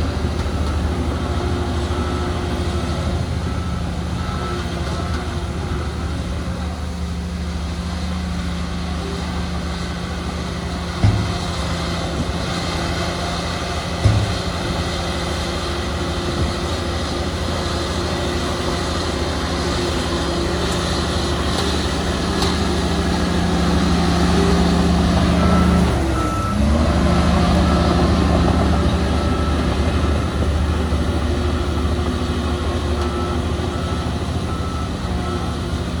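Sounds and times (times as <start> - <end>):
reversing alarm beeping: 0.0 - 7.3, 13.0 - 36.0
diesel machinery running: 0.0 - 36.0.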